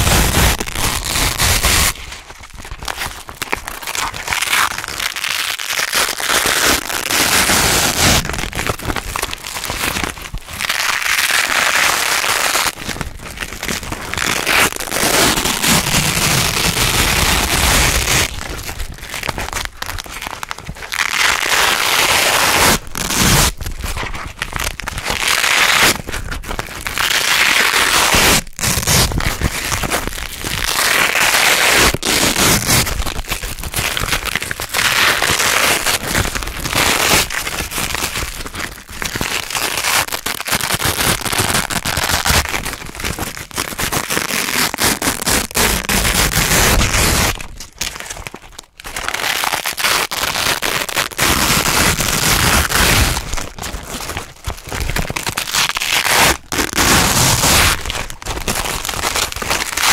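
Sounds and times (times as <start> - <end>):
velcro strips ripping apart: 0.0 - 59.9.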